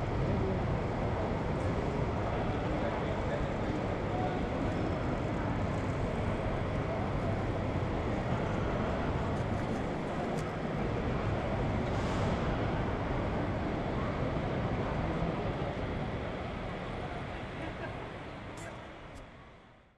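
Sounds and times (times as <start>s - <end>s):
rumbling background noise: 0.0s - 19.8s.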